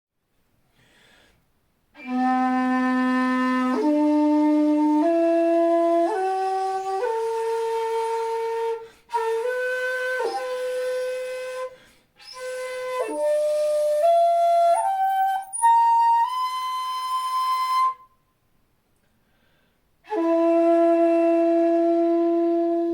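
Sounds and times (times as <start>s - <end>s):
bamboo flute long notes: 2.0s - 18.2s, 20.0s - 22.9s.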